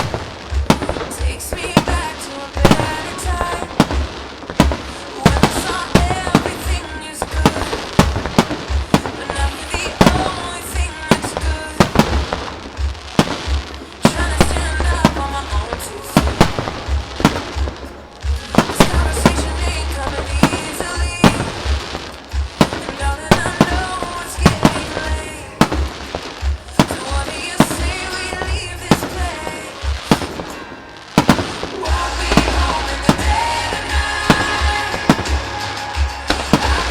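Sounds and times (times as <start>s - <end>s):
fireworks bursting: 0.0s - 36.9s
music over loudspeakers: 0.0s - 36.9s.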